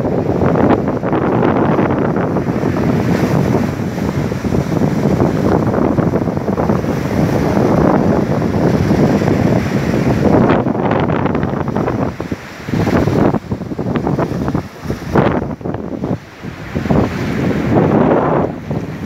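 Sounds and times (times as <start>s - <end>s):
ocean surf washing on shore: 0.0s - 19.0s
wind buffeting microphone: 0.0s - 19.0s.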